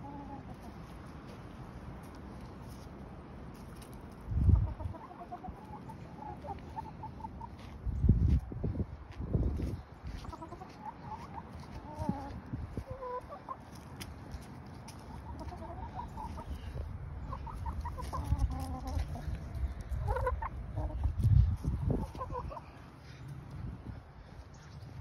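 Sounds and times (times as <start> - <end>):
hens clucking: 0.0 - 8.6, 9.6 - 25.0.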